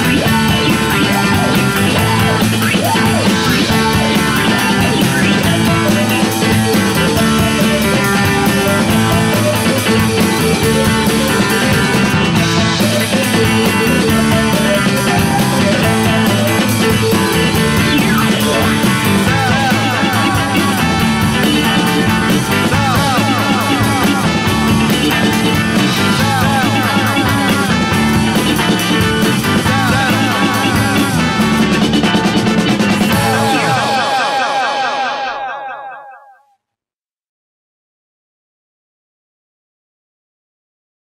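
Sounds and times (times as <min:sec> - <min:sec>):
psychedelic rock guitar music: 0:00.0 - 0:35.1.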